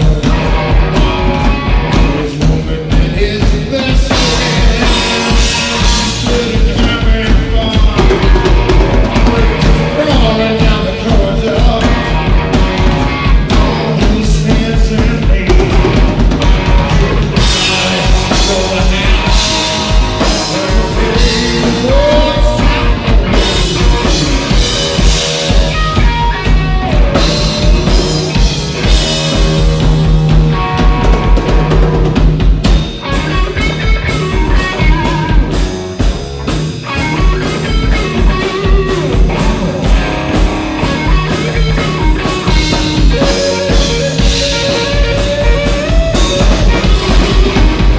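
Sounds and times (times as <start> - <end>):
drum kit beat: 0.0 - 47.9
electric bass: 0.0 - 47.9
electric guitar: 0.0 - 47.9.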